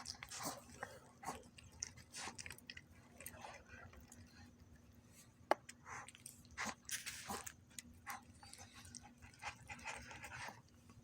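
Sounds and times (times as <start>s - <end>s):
cats crunching and chewing: 0.0s - 11.0s.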